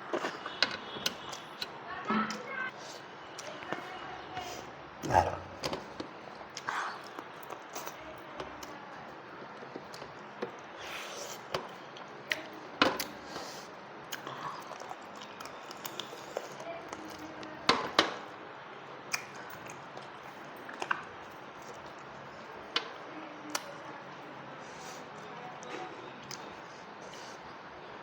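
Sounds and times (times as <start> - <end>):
soft chewing: 0.0 - 1.7, 2.3 - 17.8, 19.1 - 27.8.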